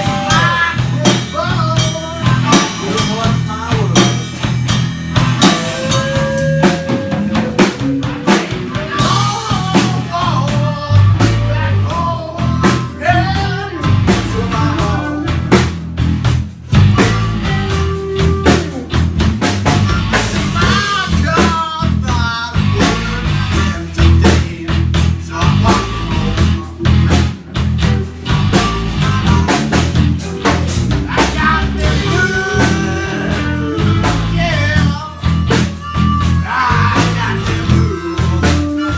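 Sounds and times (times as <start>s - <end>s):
blues-rock band playing: 0.0s - 38.9s
drum kit beat: 0.0s - 38.9s.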